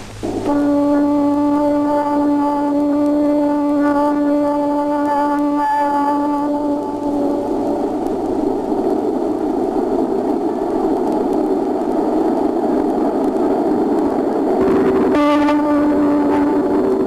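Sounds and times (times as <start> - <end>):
steady pitched tone: 0.0 - 17.0.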